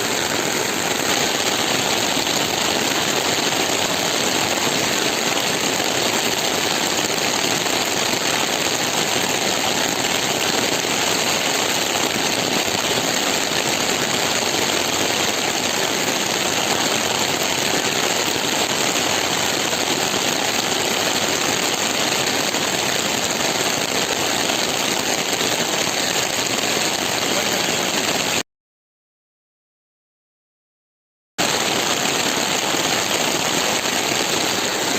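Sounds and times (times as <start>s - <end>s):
heavy rain pouring: 0.0s - 28.4s, 31.4s - 34.9s.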